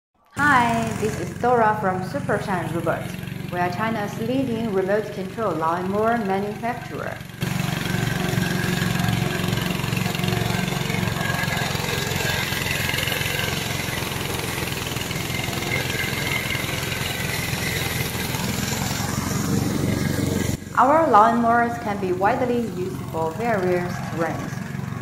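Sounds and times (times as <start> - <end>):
petrol engine running: 0.4 - 25.0
mower cutting dry grass: 0.6 - 25.0.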